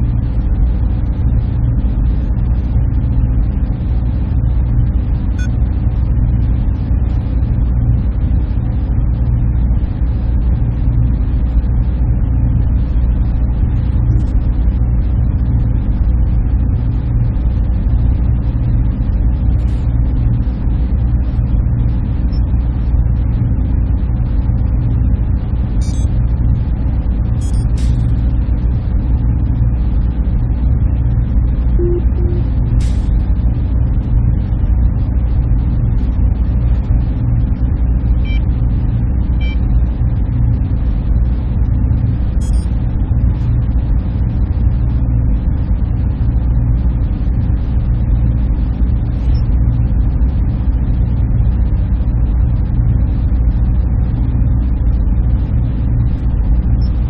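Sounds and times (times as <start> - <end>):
server room machinery drone: 0.0 - 57.0.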